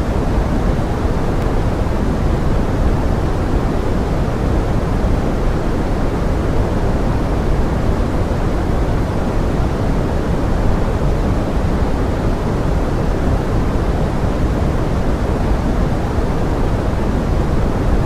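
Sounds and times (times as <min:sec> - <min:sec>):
pink noise: 0:00.0 - 0:18.0.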